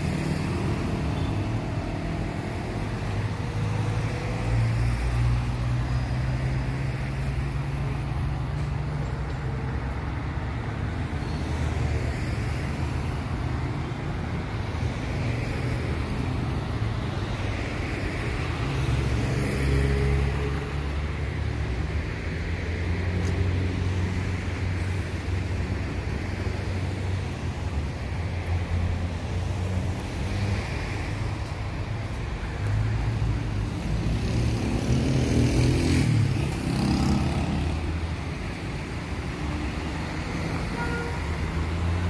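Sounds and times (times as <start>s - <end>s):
cars passing on road: 0.0s - 42.0s.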